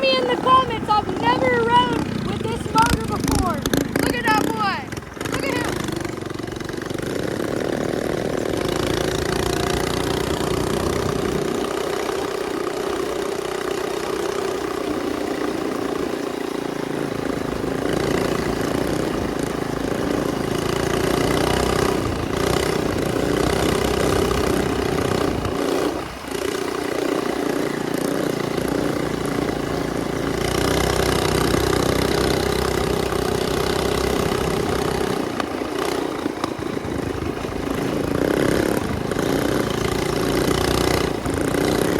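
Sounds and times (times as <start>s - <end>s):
minibike engine running: 0.0s - 41.9s.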